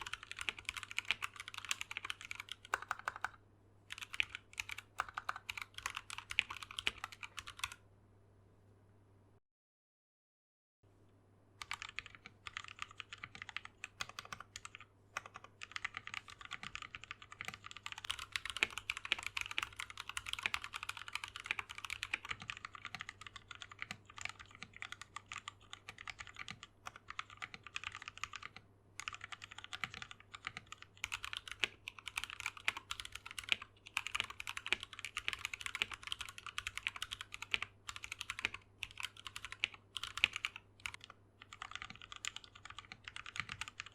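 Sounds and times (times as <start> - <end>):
mechanical keyboard typing: 0.0 - 7.8, 11.6 - 43.9.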